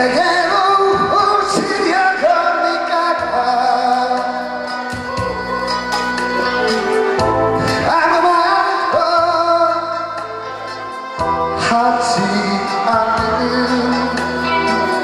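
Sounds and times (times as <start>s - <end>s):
man singing into a microphone: 0.0s - 15.0s
pop backing track: 0.0s - 15.0s.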